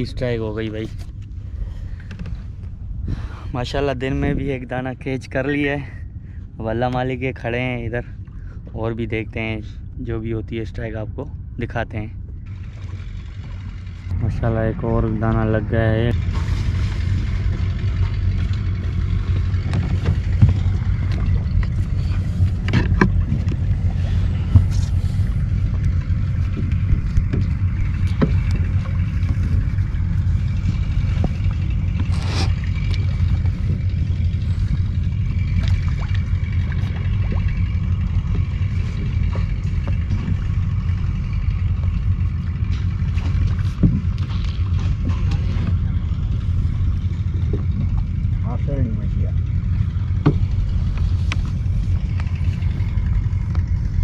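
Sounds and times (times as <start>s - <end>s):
boat engine rumble: 0.0s - 54.0s.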